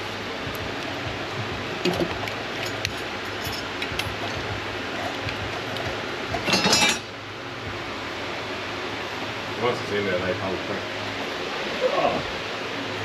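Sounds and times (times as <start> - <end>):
fan-like hiss: 0.0 - 13.0.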